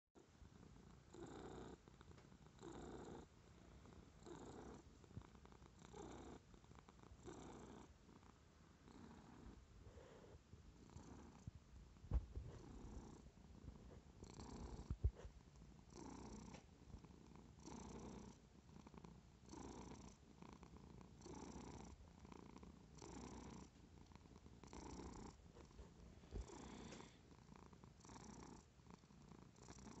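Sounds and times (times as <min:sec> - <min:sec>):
cat purring: 0:00.2 - 0:30.0.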